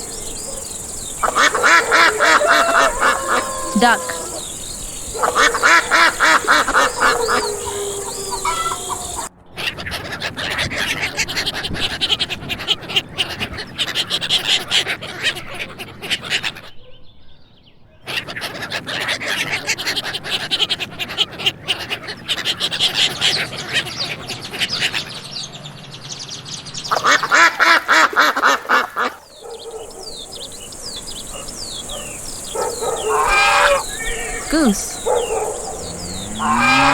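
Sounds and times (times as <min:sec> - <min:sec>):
ducks quacking: 0:00.0 - 0:16.7, 0:18.1 - 0:25.2, 0:26.9 - 0:36.9.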